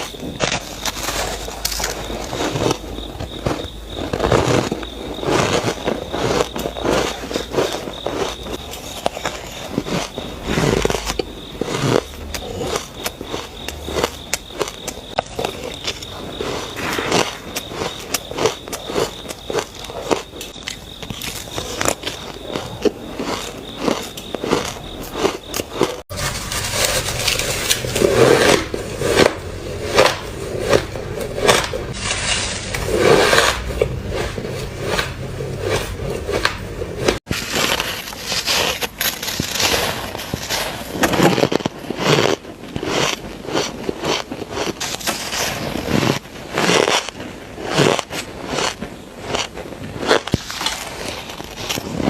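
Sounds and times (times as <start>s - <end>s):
crunching shaved ice: 0.0s - 52.0s.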